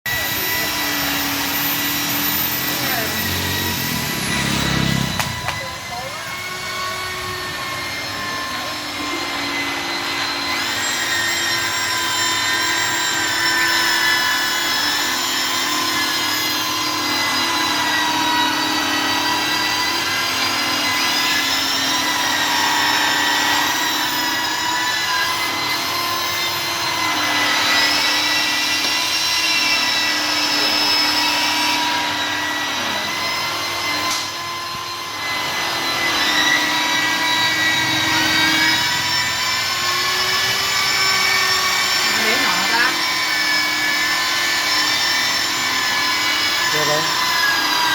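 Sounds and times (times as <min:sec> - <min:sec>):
polishing machine motor whine: 0:00.1 - 0:47.9.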